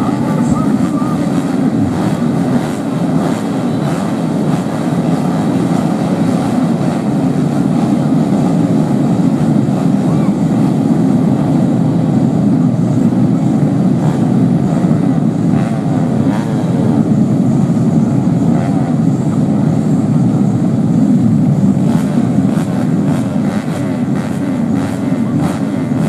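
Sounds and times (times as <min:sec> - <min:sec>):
race motorcycle engines droning: 0:00.0 - 0:26.0.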